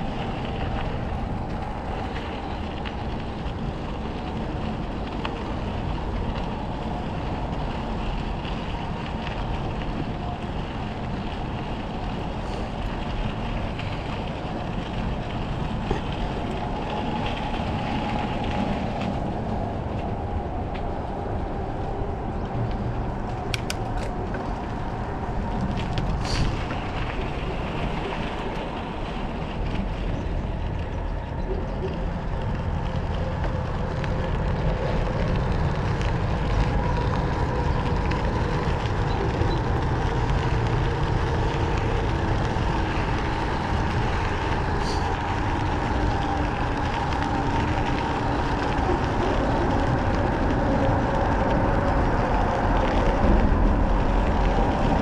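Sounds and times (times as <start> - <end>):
bicycle tyres rolling on trail: 0.0 - 55.0
wind rush on microphone: 0.0 - 55.0.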